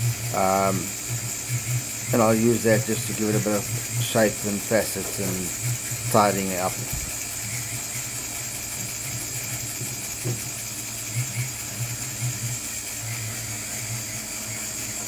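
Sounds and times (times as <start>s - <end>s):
rotary tool motor whine: 0.0s - 15.0s
wheel grinding on metal: 0.0s - 15.0s.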